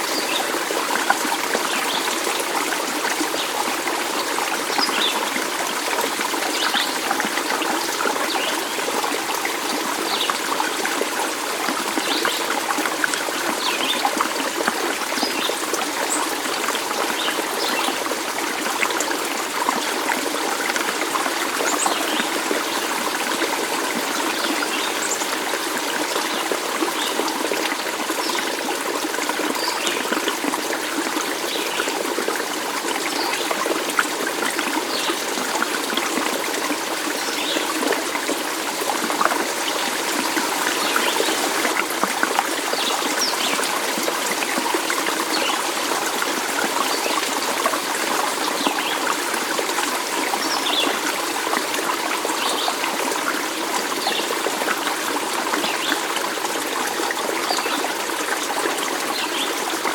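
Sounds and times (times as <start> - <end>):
stream of water rushing: 0.0 - 59.9.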